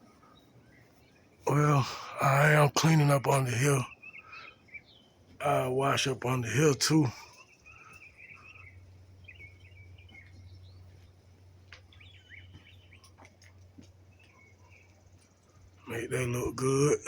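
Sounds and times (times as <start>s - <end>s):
birds chirping faintly: 0.0s - 17.0s
steady low hum: 0.0s - 17.0s.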